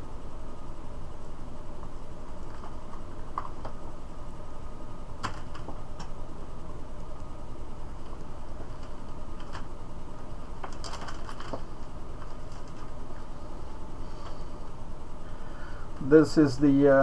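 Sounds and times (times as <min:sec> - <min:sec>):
steady background hiss: 0:03.1 - 0:17.0.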